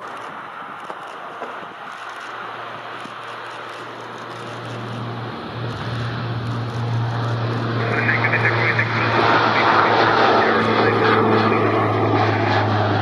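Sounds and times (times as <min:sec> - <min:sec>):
high engine whine: 0:00.0 - 0:13.0
turboprop engines drone: 0:00.0 - 0:13.0.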